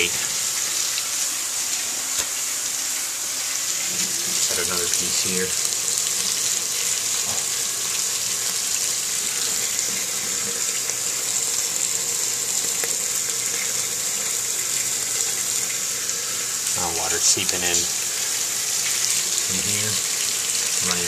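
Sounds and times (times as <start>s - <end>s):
shower water hissing: 0.0s - 21.0s.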